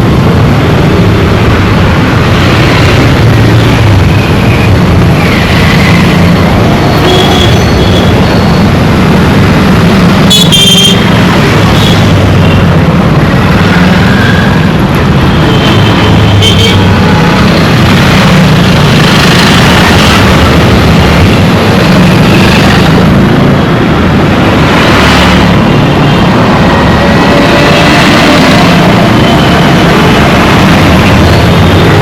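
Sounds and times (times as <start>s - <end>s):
dense street traffic: 0.0s - 32.0s.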